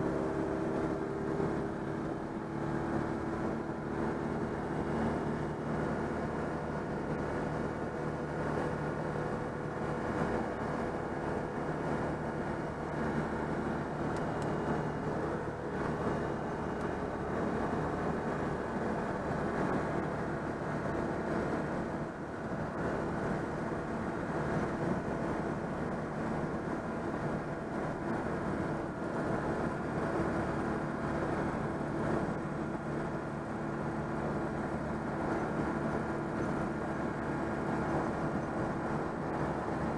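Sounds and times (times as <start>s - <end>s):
road noise: 0.0s - 39.9s
small car engine cruising: 0.0s - 39.9s.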